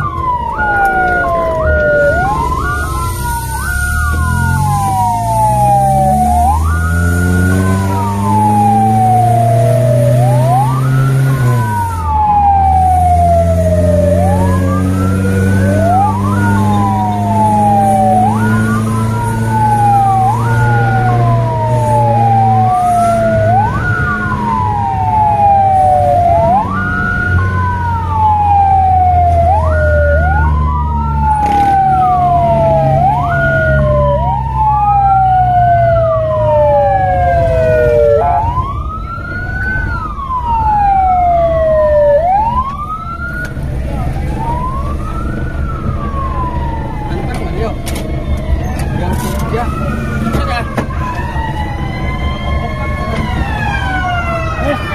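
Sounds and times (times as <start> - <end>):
electronic siren wailing: 0.0 - 54.9
vehicle engine accelerating: 0.2 - 54.9.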